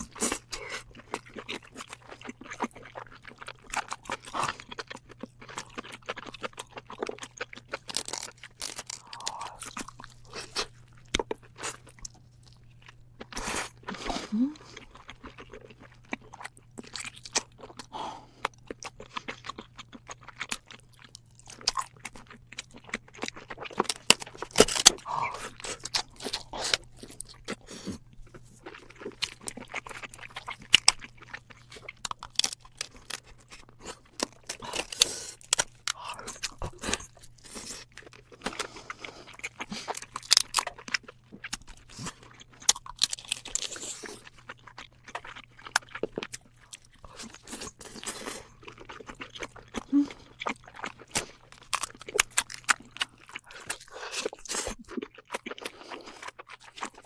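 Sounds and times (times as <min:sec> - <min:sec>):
chewing: 0:00.0 - 0:57.0.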